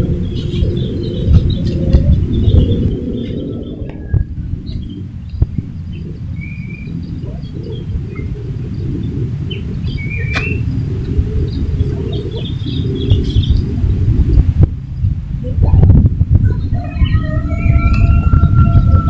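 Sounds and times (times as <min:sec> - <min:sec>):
birds chirping: 0:00.0 - 0:15.8, 0:16.4 - 0:19.0
steady low rumble: 0:00.0 - 0:19.0.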